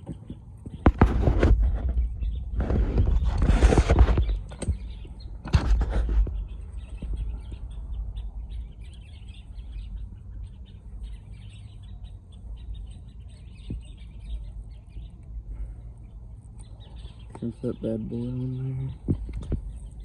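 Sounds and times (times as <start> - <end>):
birds chirping: 0.0 - 20.0
steady low rumble: 0.0 - 20.0.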